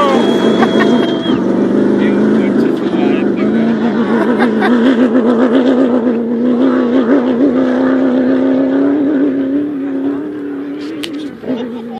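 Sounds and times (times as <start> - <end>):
racing car engine high revs: 0.0 - 11.9.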